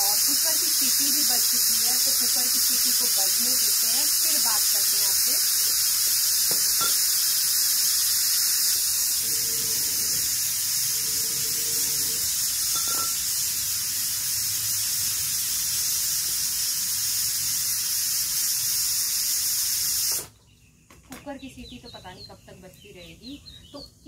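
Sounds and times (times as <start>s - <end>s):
pressure cooker whistle hissing: 0.0s - 20.3s.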